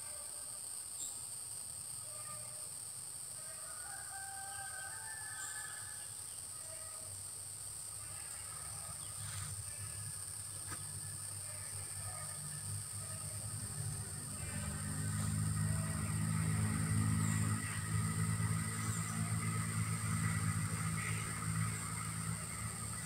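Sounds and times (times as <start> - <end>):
high-pitched insect drone: 0.0 - 23.0
distant rooster crowing: 3.4 - 7.1, 7.9 - 23.0.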